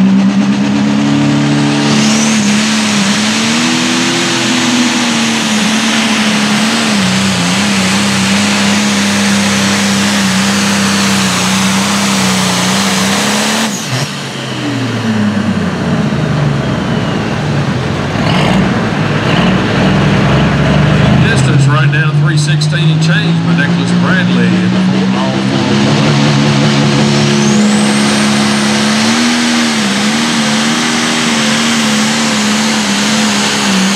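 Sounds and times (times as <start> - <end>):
diesel tractor engine at full throttle: 0.0 - 33.9.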